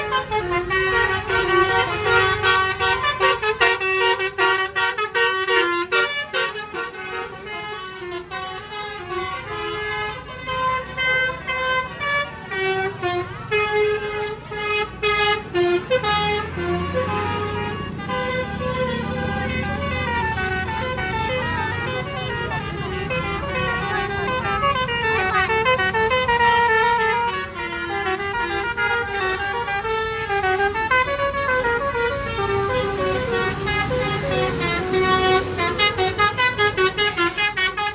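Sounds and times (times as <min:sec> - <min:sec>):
multi-tone bus horn melody: 0:00.0 - 0:37.9.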